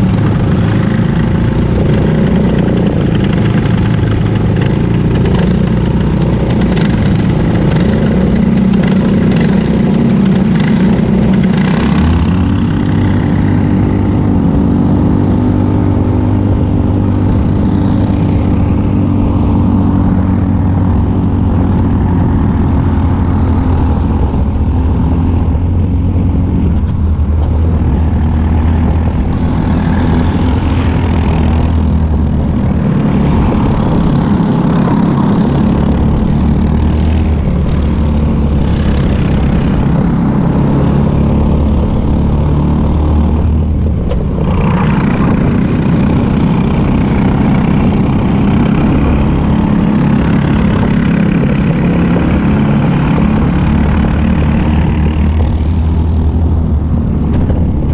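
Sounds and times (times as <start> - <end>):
kart engine running hard: 0.0 - 57.9.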